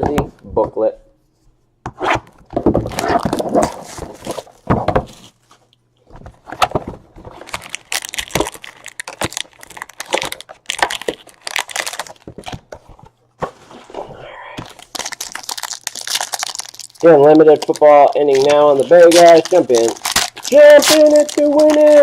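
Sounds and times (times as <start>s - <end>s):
trading cards and packaging rustling: 2.6s - 13.9s, 14.6s - 22.0s.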